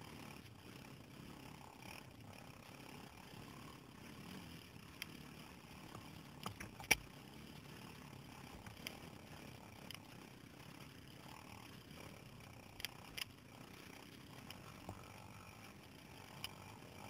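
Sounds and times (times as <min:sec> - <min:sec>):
quad bike engine rumbling: 0:00.0 - 0:17.0.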